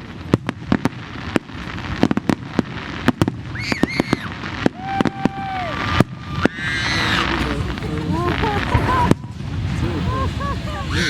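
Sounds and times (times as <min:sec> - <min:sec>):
fireworks cracks and bangs: 0:00.0 - 0:11.0
fireworks whistling: 0:00.0 - 0:11.0.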